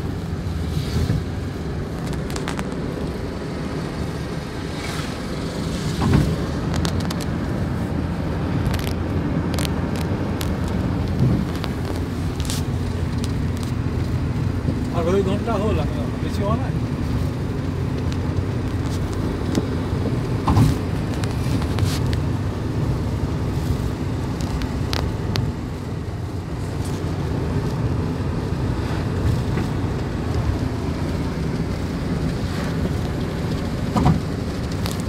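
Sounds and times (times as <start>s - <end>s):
tyre and engine noise in car cabin: 0.0s - 35.0s.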